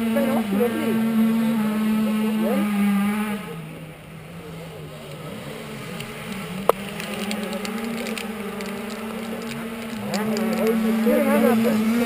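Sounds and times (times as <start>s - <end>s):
motorbikes idling: 0.0s - 12.0s.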